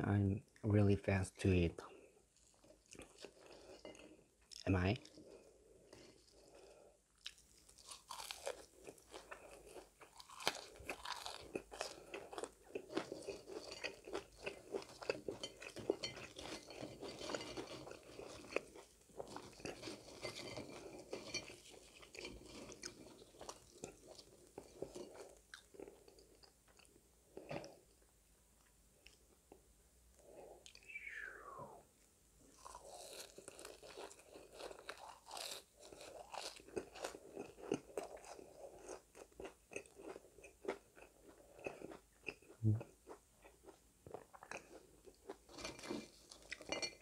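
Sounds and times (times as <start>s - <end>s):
chewing crisp french fries: 2.3s - 28.0s, 32.5s - 47.0s.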